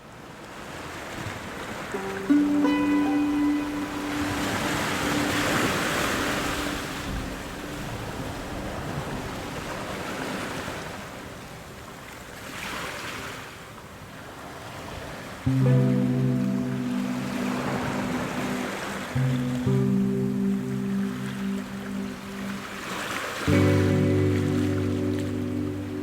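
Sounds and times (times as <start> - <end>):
waves washing in: 0.5 - 26.0.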